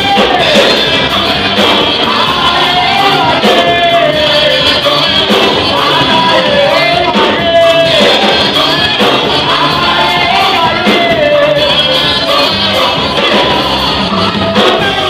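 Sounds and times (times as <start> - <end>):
backing singers: 0.0 - 15.0
drums: 0.0 - 15.0
keyboard: 0.0 - 15.0
lead singer: 0.0 - 15.0.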